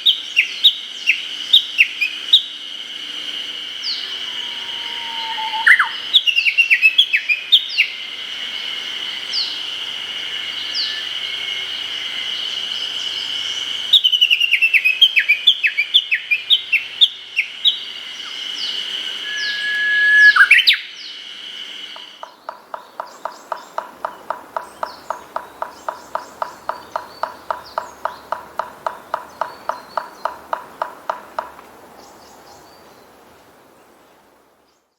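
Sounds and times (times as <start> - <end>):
fast repeated bird call: 0.0 - 31.2
bush warbler singing: 0.0 - 33.2.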